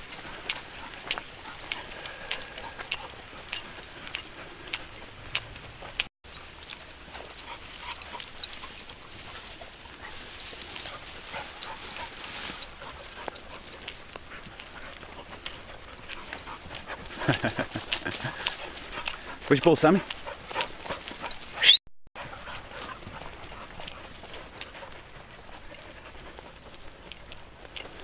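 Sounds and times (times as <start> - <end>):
paws crackling on twigs: 0.0 - 21.6, 22.2 - 28.0
dogs panting: 0.0 - 28.0.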